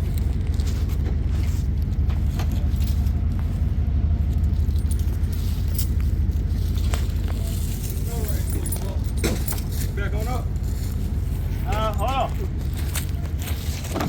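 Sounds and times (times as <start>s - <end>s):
truck engine rumbling: 0.0s - 14.0s
faint clinks and rattles: 1.6s - 14.0s.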